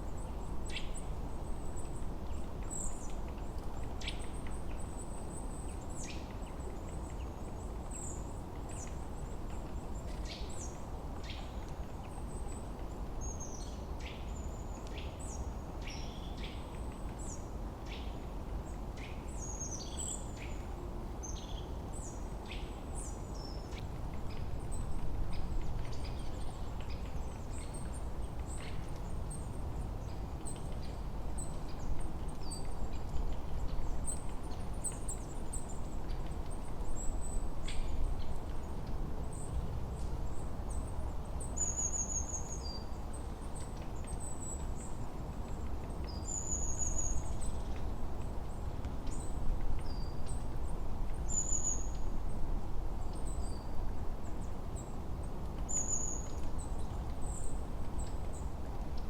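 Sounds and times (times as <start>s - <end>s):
forest birds chirping: 3.8s - 52.4s, 53.0s - 59.0s.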